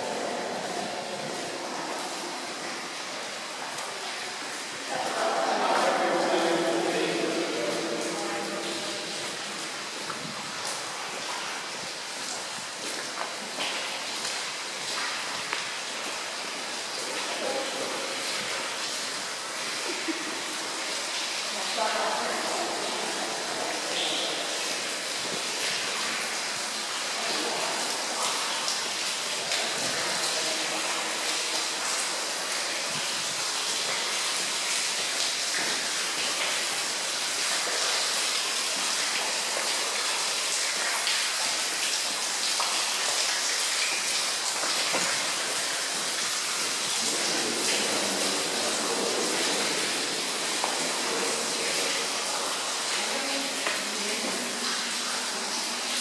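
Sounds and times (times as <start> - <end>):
water dripping and running: 0.0 - 56.0.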